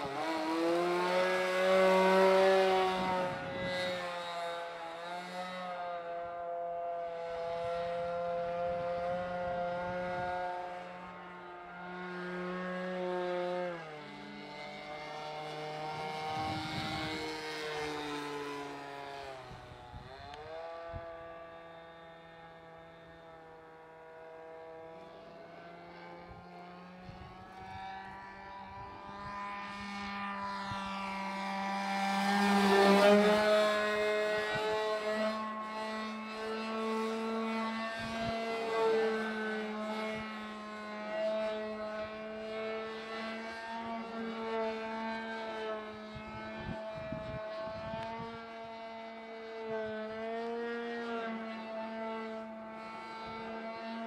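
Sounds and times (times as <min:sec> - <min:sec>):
model plane engine in flight: 0:00.0 - 0:54.0.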